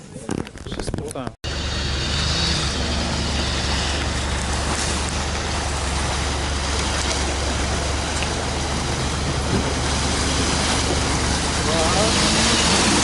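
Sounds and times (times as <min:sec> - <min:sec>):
off-road vehicle low rumble: 0:00.2 - 0:13.0.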